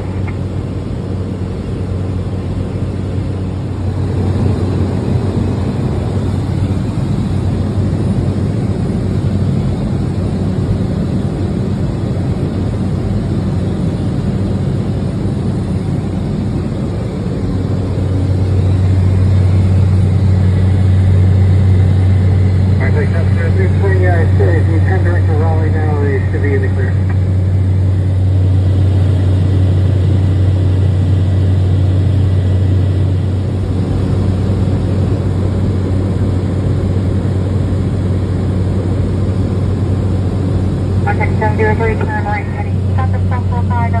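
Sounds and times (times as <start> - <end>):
turboprop plane cabin drone: 0.0 - 44.0.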